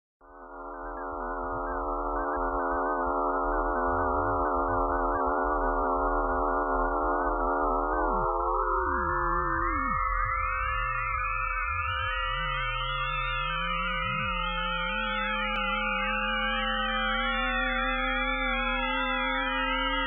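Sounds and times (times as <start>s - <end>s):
synthesized electronic drone: 0.4s - 20.0s.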